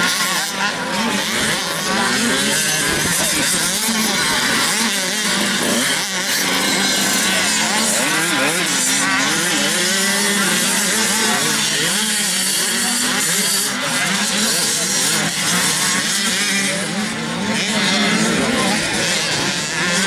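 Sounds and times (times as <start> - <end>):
motocross engines revving: 0.0 - 20.0
steady drone: 0.0 - 20.0.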